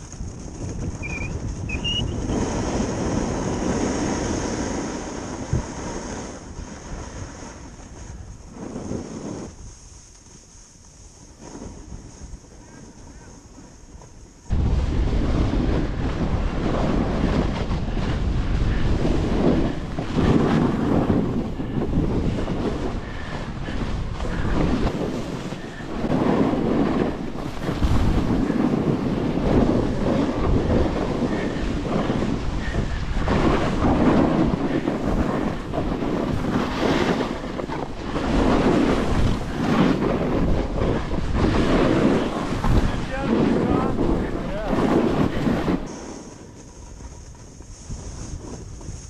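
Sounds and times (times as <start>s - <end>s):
snowboard scraping over snow: 0.0s - 49.0s
wind buffeting microphone: 0.0s - 49.0s.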